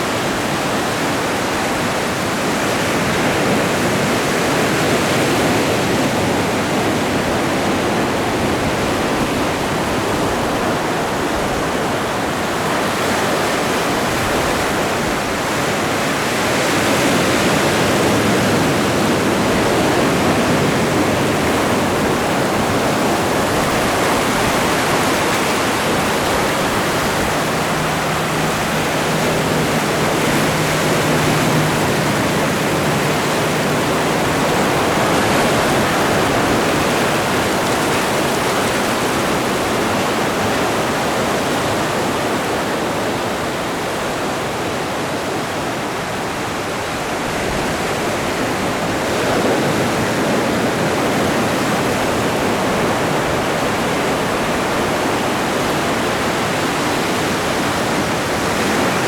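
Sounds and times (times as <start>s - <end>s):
ocean surf washing: 0.0s - 59.0s.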